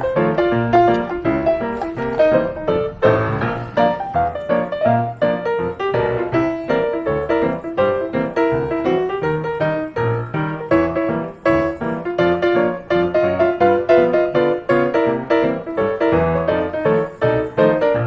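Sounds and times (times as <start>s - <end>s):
piano playing busy run: 0.0s - 18.0s.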